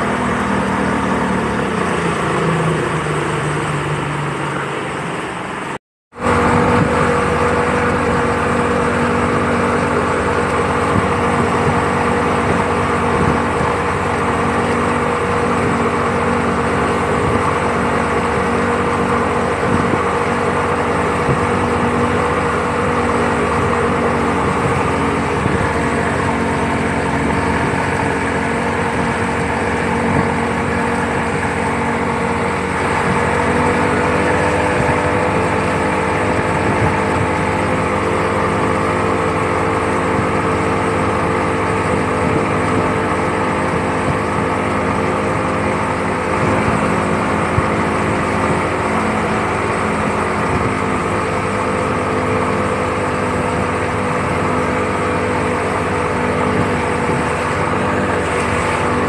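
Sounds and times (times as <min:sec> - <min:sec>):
outboard motor running: 0:00.0 - 0:59.0
water churning under hull: 0:00.0 - 0:59.0.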